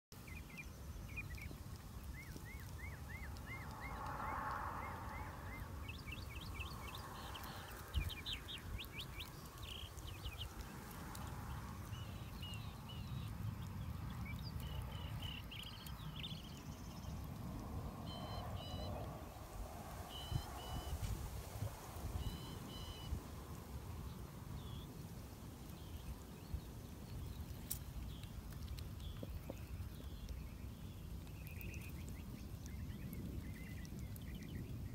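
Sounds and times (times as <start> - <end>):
steady low rumble: 0.4 - 34.9.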